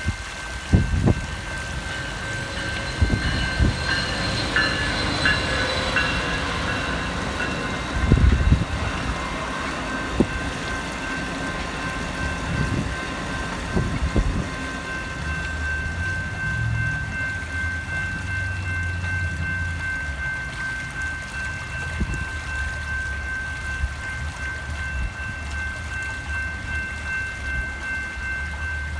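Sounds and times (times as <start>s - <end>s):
railroad crossing bell ringing: 0.0s - 28.9s.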